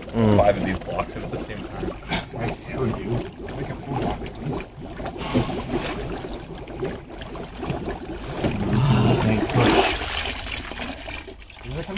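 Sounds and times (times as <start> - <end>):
water bubbling and churning: 0.0 - 11.9.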